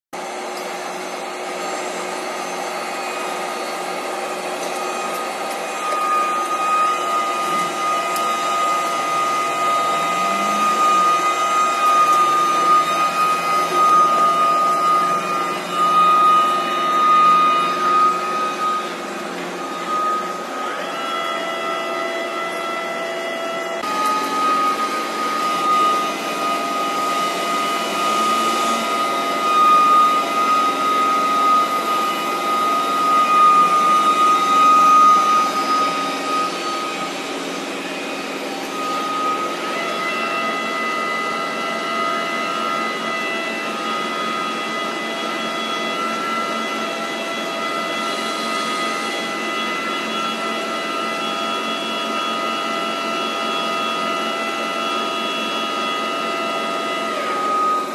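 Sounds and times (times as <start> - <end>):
machinery drone: 0.2 - 57.9.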